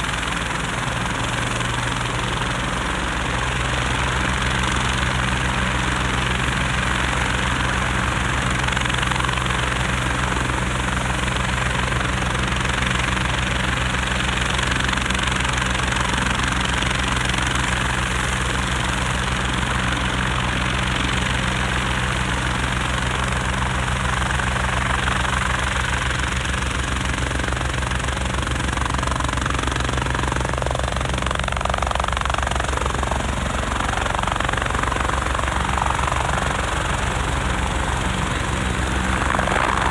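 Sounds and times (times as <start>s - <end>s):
helicopter rotor beat: 0.0s - 39.9s
high turbine whine: 0.0s - 39.9s.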